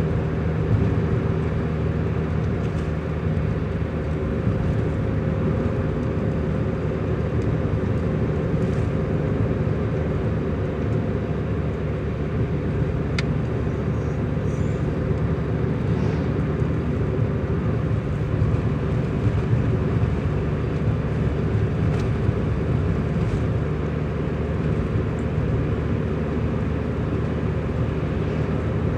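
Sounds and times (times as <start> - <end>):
vehicle engine hum and road noise: 0.0 - 28.9.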